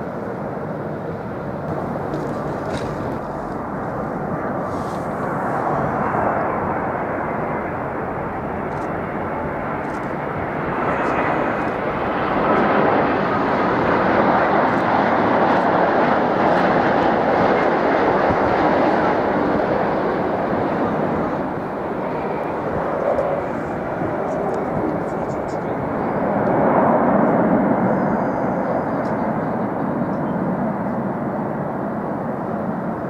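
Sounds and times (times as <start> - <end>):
jet engine roaring: 0.0 - 33.0.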